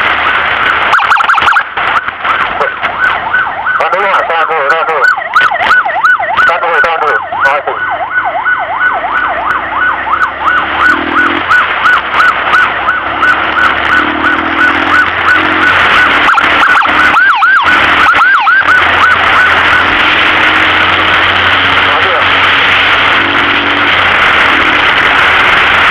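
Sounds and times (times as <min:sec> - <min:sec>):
road noise: 0:00.0 - 0:25.9
ambulance siren yelping: 0:00.3 - 0:25.9.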